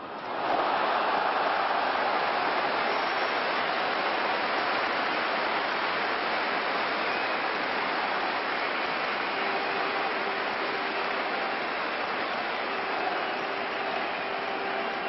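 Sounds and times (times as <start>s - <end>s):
stadium crowd cheering: 0.0s - 15.0s.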